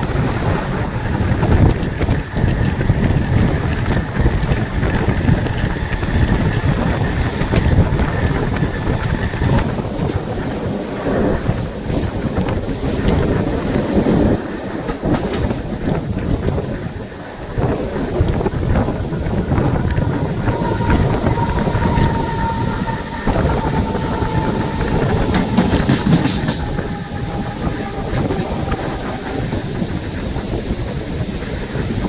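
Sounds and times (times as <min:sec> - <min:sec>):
train wheels rumbling and clattering: 0:00.0 - 0:32.0
wind hiss on microphone: 0:00.0 - 0:32.0.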